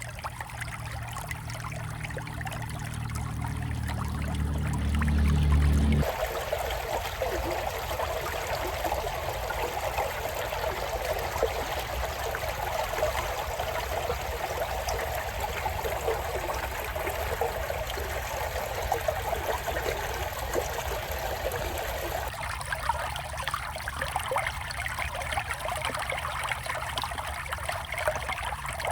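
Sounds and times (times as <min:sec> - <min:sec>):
creek water trickling: 0:00.0 - 0:28.9.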